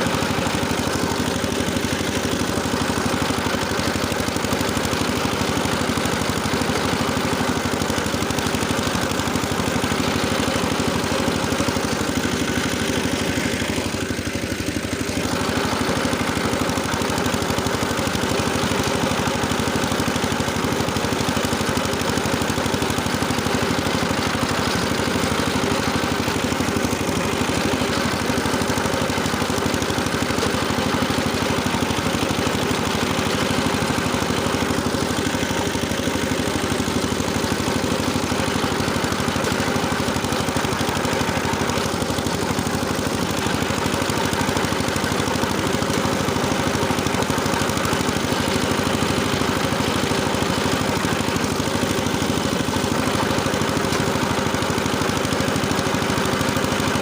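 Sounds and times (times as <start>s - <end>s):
rotary tiller engine running: 0.0s - 57.0s.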